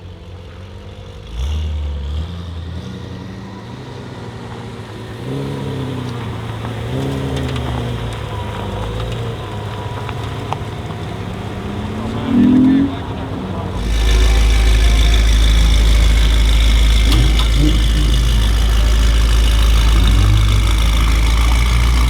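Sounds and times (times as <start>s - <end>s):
car engine at low revs: 0.0s - 22.0s.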